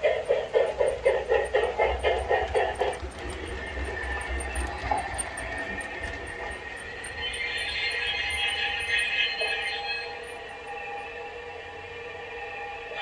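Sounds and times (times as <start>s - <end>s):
locomotive pulsing beat: 0.0s - 11.6s.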